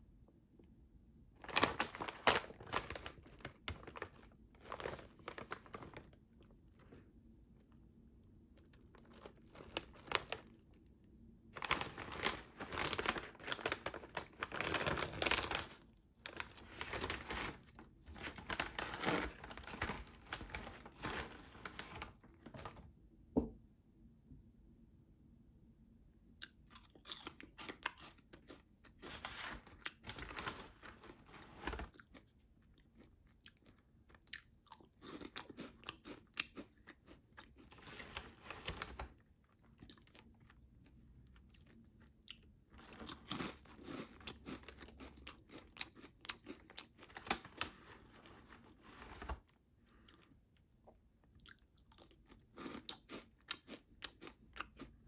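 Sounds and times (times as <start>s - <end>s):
crunching crisps: 1.4s - 7.8s, 8.4s - 10.9s, 11.5s - 22.8s, 26.4s - 50.4s, 51.3s - 55.0s.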